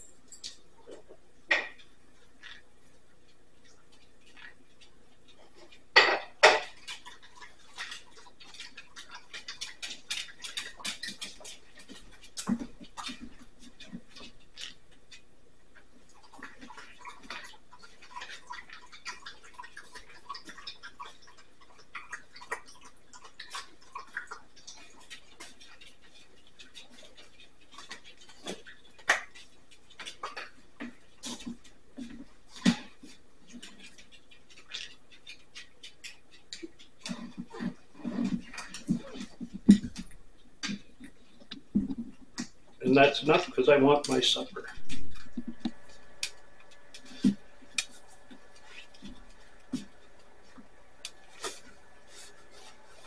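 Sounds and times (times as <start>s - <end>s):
parrot beak clicking and crunching: 0.0s - 53.0s.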